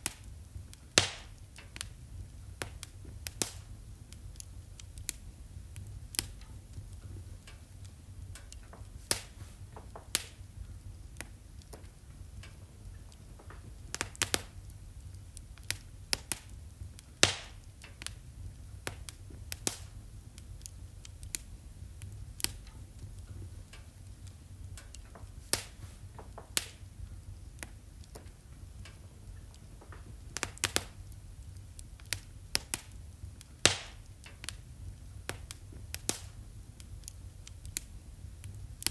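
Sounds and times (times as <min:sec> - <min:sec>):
low steady rumble of fire: 0:00.0 - 0:38.9
wood fire crackling and popping: 0:00.0 - 0:38.9.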